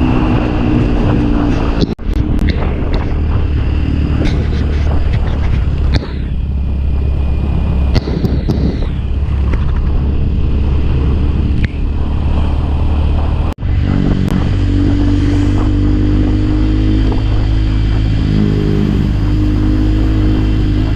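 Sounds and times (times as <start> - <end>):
motorcycle engine running: 0.0 - 20.9
road and wind noise: 0.0 - 20.9.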